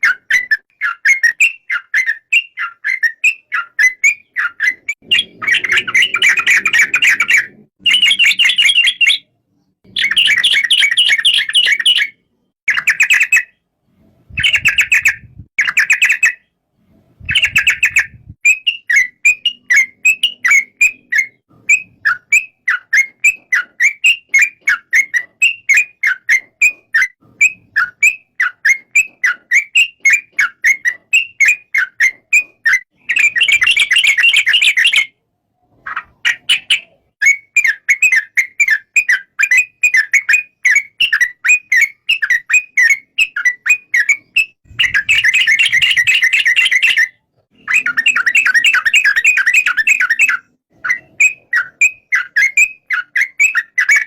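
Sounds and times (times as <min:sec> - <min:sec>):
bird rapid chatter: 0:00.0 - 0:13.6, 0:14.3 - 0:16.5, 0:17.2 - 0:35.1, 0:35.8 - 0:54.0
bird chirping: 0:00.0 - 0:54.0.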